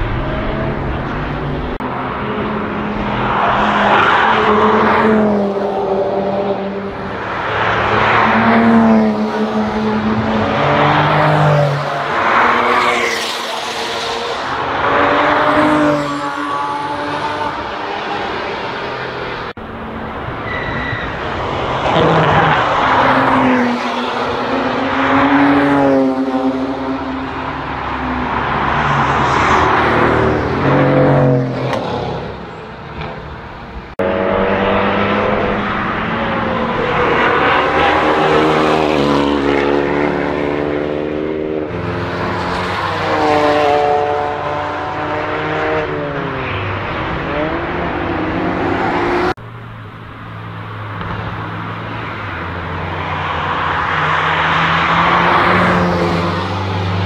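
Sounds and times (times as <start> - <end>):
racing cars passing: 0.0 - 57.0.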